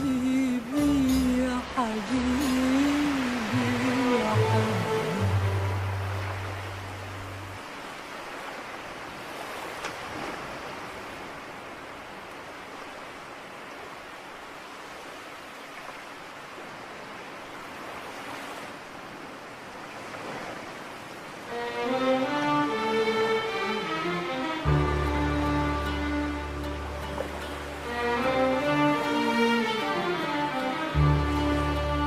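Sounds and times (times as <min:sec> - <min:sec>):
sea waves washing on shore: 0:00.0 - 0:32.0.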